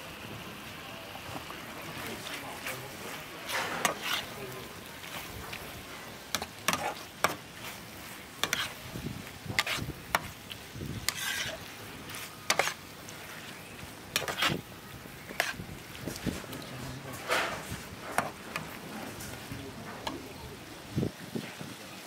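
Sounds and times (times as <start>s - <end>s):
frying sizzle: 0.0s - 22.0s
metal spatula scraping wok: 1.8s - 20.4s.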